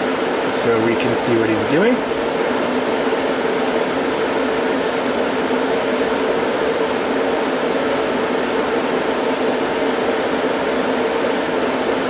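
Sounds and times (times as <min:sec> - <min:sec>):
cooling fans rushing air: 0:00.0 - 0:12.0
faint steady hum: 0:00.0 - 0:12.0.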